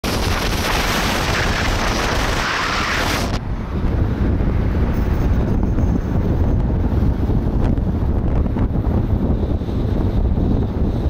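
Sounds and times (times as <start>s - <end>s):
car rumble on road: 0.0s - 11.0s
wind rushing over microphone: 0.0s - 11.0s.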